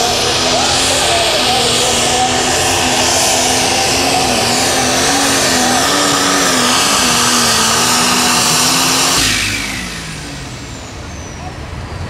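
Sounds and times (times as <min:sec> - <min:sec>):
tractor engine running under load: 0:00.0 - 0:12.0.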